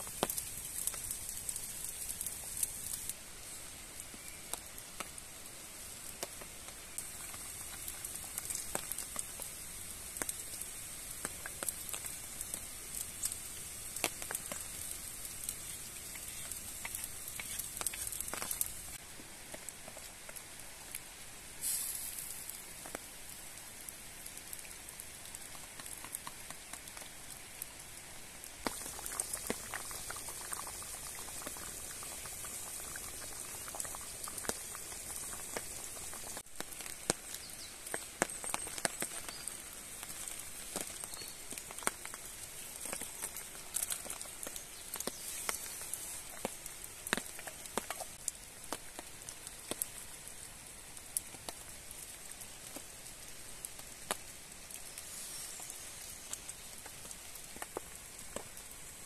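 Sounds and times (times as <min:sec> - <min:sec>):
embers crackling and ticking: 0:00.0 - 0:59.0
stew simmering with sizzling hiss: 0:00.0 - 0:59.0.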